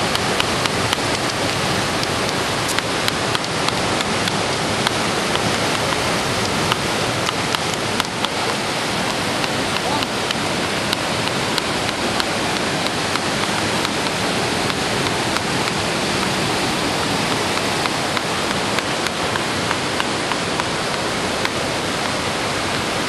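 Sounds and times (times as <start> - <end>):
water hissing: 0.0 - 23.0.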